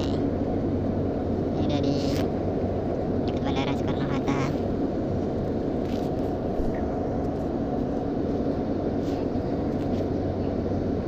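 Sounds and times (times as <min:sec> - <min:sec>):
airplane cabin engine drone: 0:00.0 - 0:11.0.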